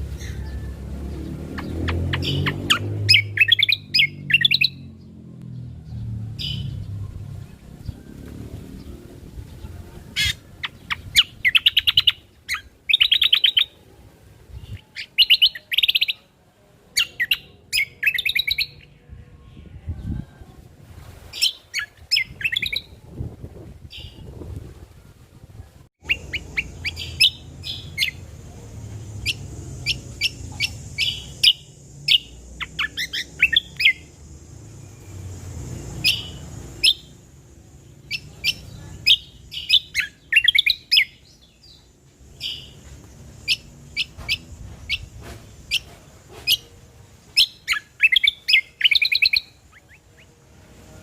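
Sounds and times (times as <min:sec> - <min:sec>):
songbird chirps and trills: 0:00.0 - 0:51.0.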